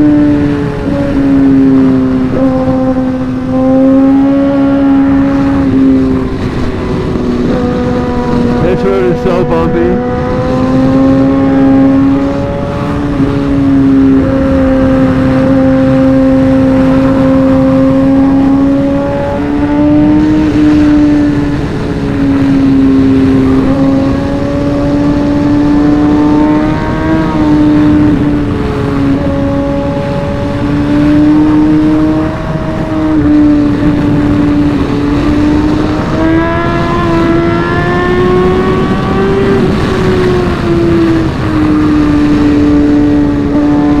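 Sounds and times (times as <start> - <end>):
motorcycle engine revving high: 0.0 - 44.0
wind rush: 0.0 - 44.0.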